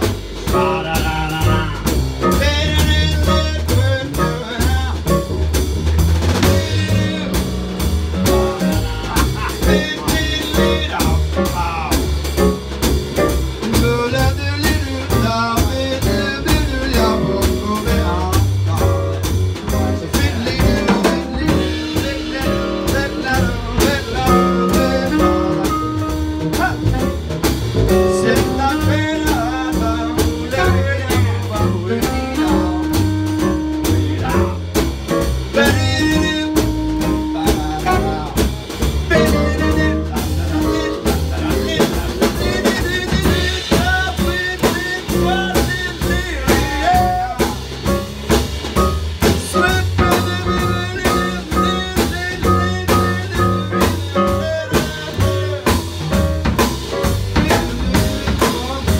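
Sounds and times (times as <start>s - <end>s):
acoustic piano: 0.0s - 58.9s
drum kit: 0.0s - 58.9s
upright double bass: 0.0s - 58.9s
saxophone: 6.2s - 12.6s, 13.2s - 48.0s, 48.8s - 56.6s.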